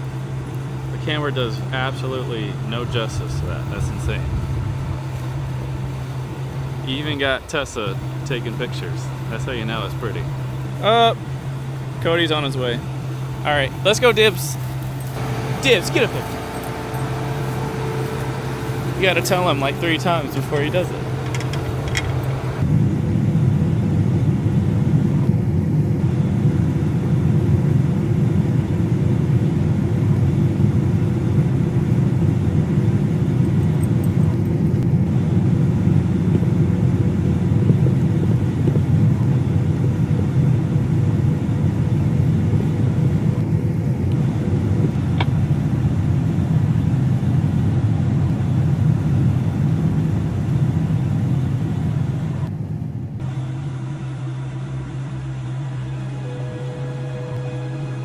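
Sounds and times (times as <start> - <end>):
road noise: 0.0 - 58.0
vehicle engine rumble: 0.0 - 58.0.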